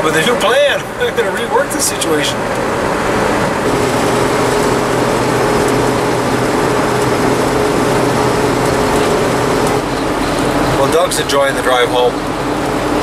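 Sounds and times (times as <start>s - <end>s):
road noise: 0.0s - 13.0s
van engine droning: 0.0s - 13.0s.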